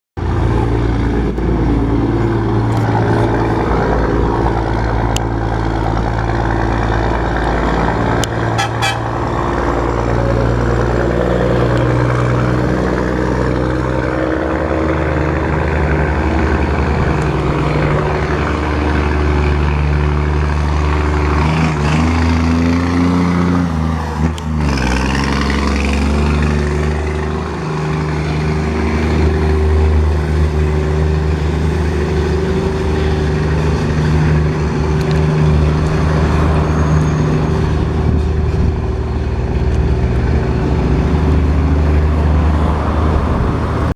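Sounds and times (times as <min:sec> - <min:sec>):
loud truck engine revving: 0:00.2 - 0:43.9.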